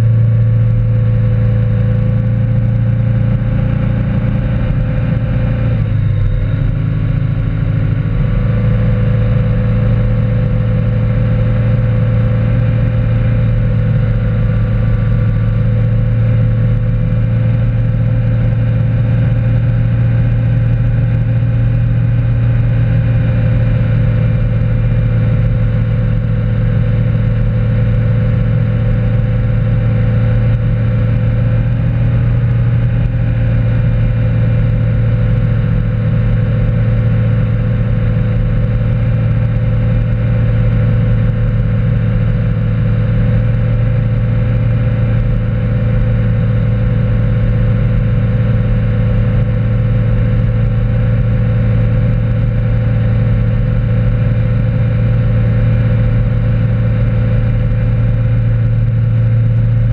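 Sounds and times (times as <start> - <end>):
motorboat engine running: 0.0 - 59.9.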